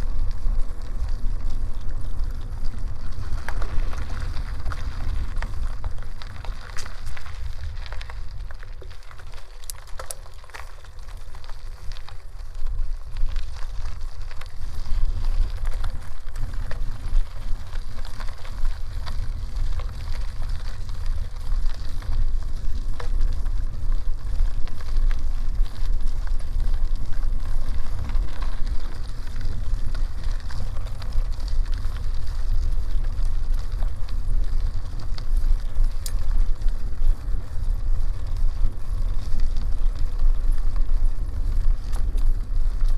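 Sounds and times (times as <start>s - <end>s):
bicycle tyres on gravel: 0.0s - 42.9s.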